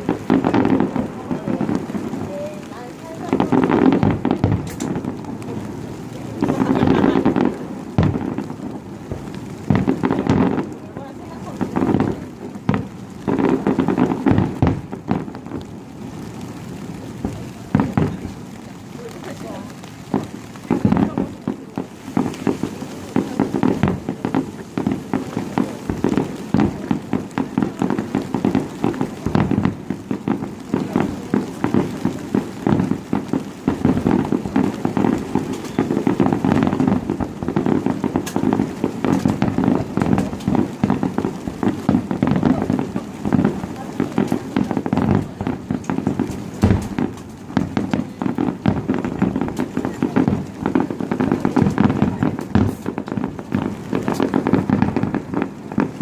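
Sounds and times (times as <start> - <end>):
fireworks booming: 0.0 - 56.0.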